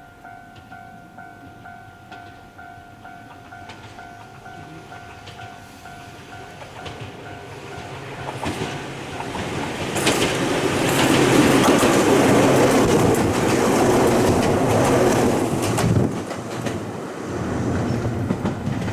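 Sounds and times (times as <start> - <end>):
electric train passing: 0.0 - 18.9
train wheels clacking: 0.0 - 18.9.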